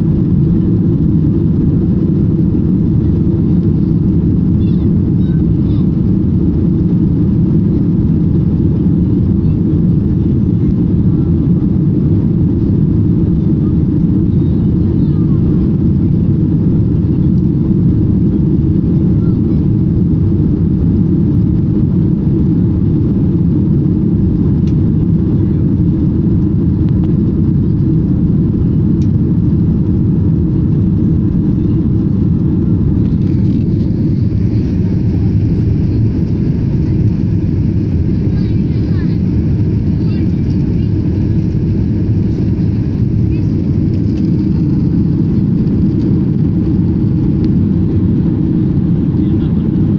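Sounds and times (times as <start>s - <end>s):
jet engine rumble in cabin: 0.0s - 49.9s.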